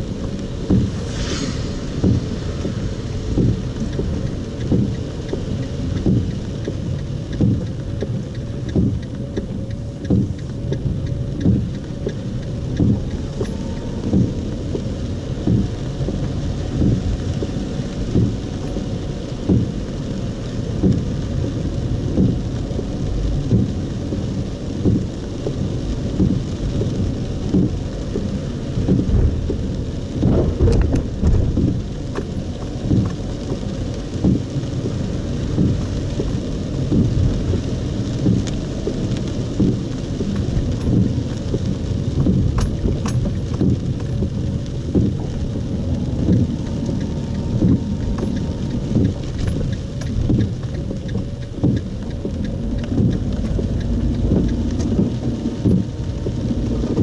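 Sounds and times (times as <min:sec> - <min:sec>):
heavy rain and road noise: 0:00.0 - 0:57.0
windscreen wipers thumping: 0:00.0 - 0:57.0.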